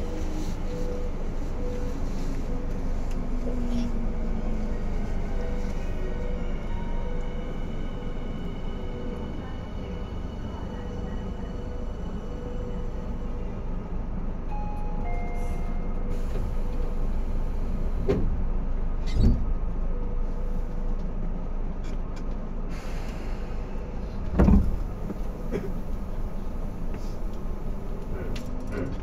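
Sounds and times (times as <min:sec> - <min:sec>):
train car interior hum: 0:00.0 - 0:29.0.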